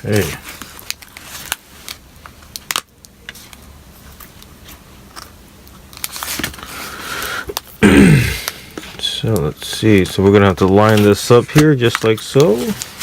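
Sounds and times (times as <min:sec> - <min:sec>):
plastic film crinkling: 0:00.0 - 0:07.7, 0:08.4 - 0:13.0.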